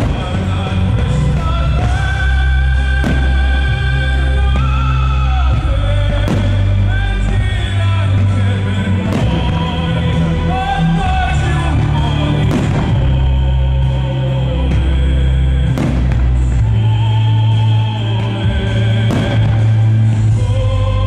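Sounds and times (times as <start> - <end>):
firework bangs: 0.0 - 20.6
music with singing voice: 0.0 - 21.0.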